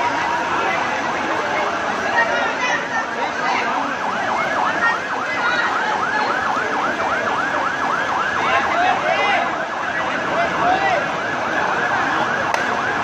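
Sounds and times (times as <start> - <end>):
siren yelping: 0.0 - 13.0.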